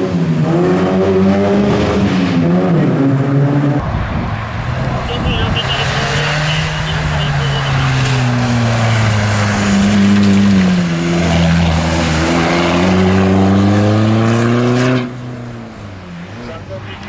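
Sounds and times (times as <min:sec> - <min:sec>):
rally car engine accelerating: 0:00.0 - 0:16.6.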